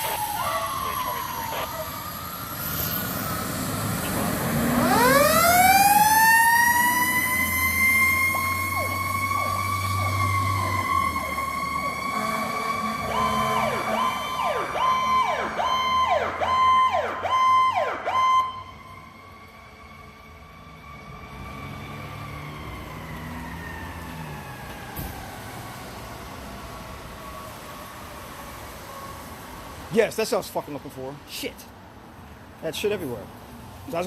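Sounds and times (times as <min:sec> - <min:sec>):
siren rising and falling sweeps: 0:00.0 - 0:29.2
siren steady high wail: 0:00.0 - 0:29.7.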